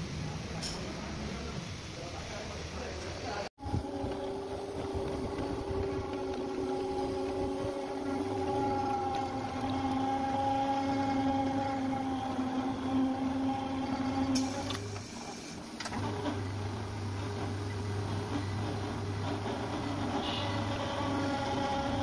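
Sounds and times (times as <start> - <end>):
electric machine drive whining: 3.6 - 22.0.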